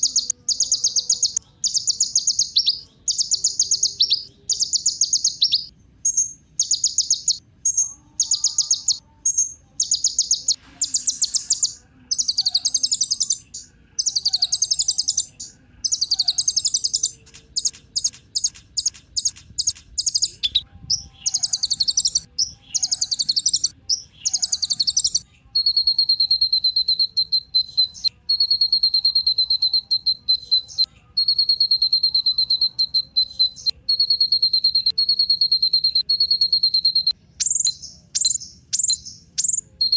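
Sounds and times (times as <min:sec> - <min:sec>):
bird chattering song: 0:00.0 - 0:39.9
continuous high trill: 0:00.0 - 0:39.9.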